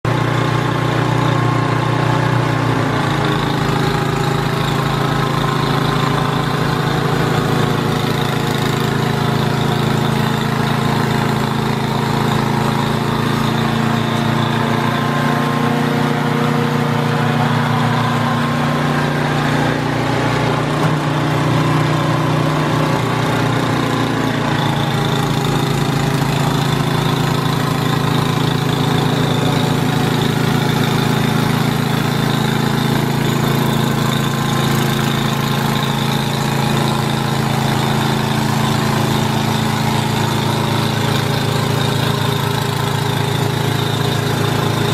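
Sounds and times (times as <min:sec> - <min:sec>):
snowblower engine running: 0:00.0 - 0:44.9.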